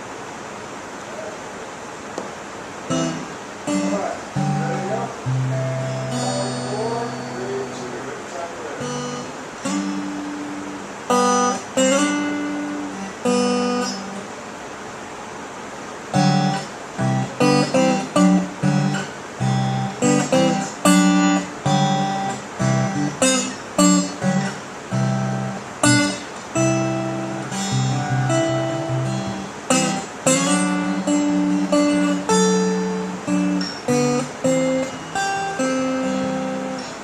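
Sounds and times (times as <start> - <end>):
acoustic guitar strumming: 2.2 - 37.0.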